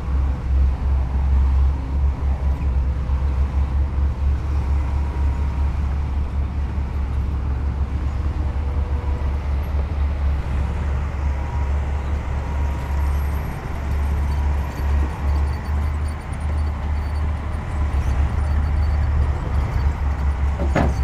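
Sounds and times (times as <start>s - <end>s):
diesel machinery engine rumble: 0.0s - 21.0s.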